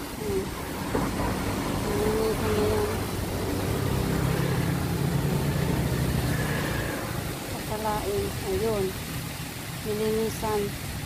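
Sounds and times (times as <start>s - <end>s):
vehicle engine humming: 0.0s - 9.8s.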